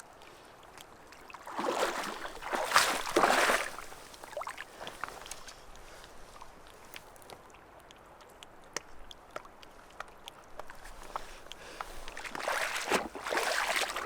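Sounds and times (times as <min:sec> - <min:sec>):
water splashing and sloshing: 0:00.1 - 0:14.0.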